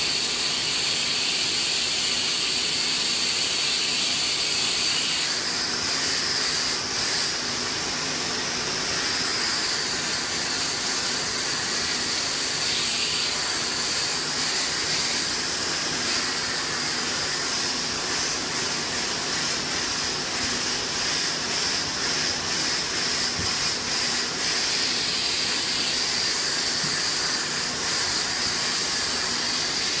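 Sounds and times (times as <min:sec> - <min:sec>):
steam cleaner hissing: 0:00.0 - 0:30.0
thin high whine: 0:00.0 - 0:30.0.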